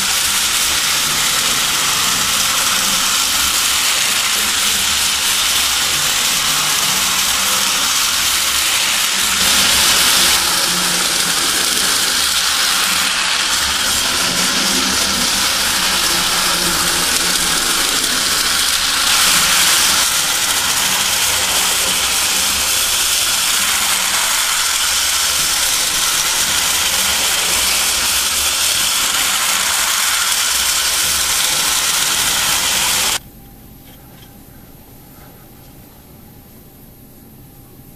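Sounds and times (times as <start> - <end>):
toy train whirring on tin rails: 0.0 - 33.2.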